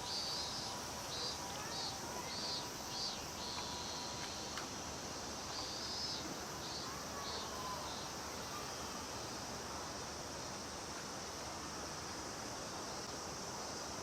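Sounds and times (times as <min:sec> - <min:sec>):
cicadas droning: 0:00.0 - 0:14.0
short higher insect calls: 0:00.0 - 0:14.0.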